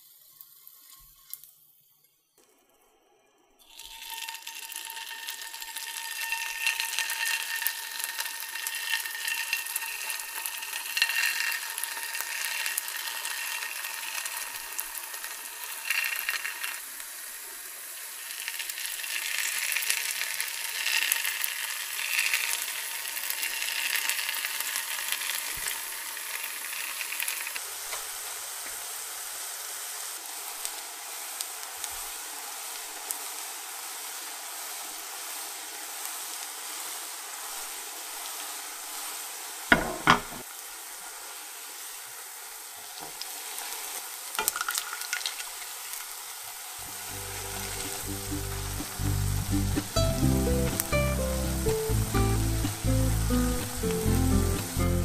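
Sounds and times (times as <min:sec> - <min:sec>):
dough frying in hot oil: 0:00.0 - 0:02.4, 0:03.6 - 0:55.0.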